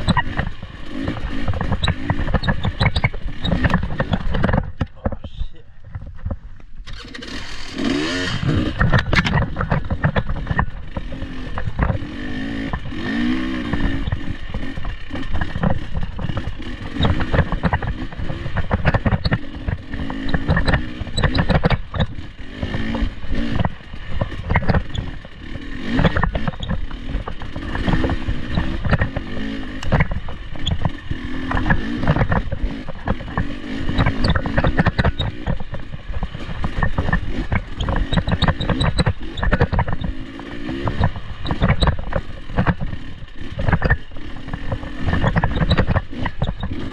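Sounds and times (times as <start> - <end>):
off-road vehicle engine revving: 0.0 - 5.8, 6.8 - 46.9
vehicle knocking and clattering: 0.0 - 6.6, 8.7 - 46.9.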